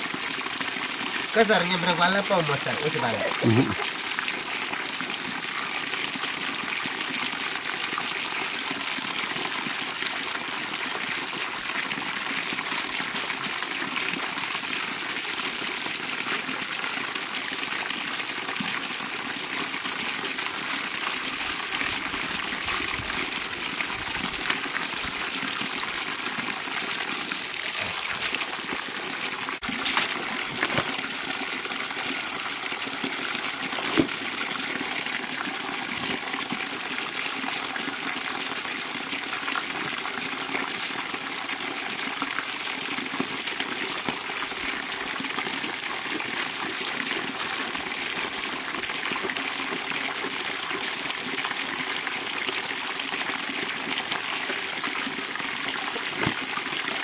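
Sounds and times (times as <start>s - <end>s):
water pouring into bucket: 0.0s - 57.0s.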